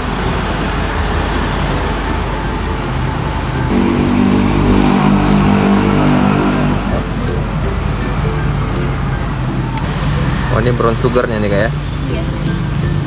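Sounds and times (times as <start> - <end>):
road traffic noise: 0.0 - 13.0
vehicle engine running close by: 0.0 - 13.0.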